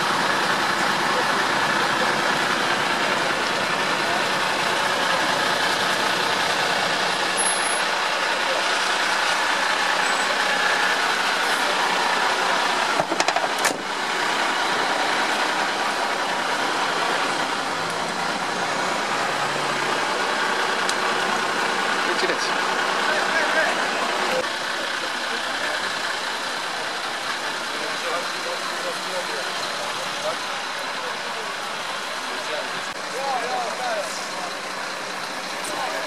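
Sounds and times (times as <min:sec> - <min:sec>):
people's voices: 0:00.0 - 0:36.0
vehicle engine running: 0:00.0 - 0:36.0.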